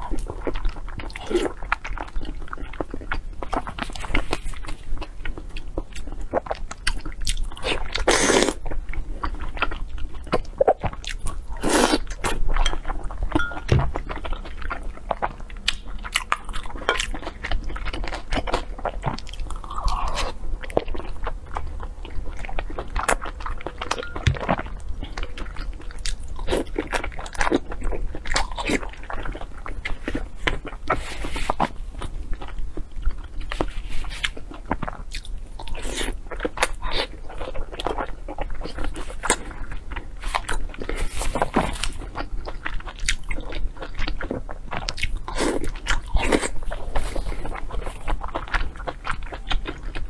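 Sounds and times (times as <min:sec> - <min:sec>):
wet chewing and mouth clicks: 0:00.0 - 0:50.0.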